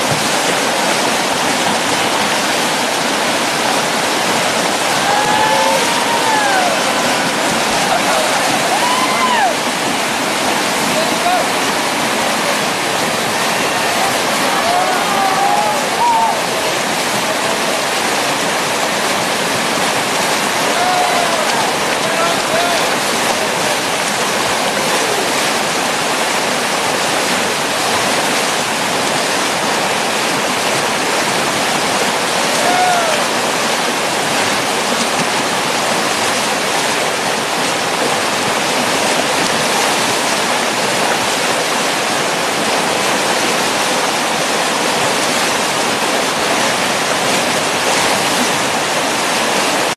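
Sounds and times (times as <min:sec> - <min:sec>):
river rapid rushing: 0:00.0 - 0:49.9.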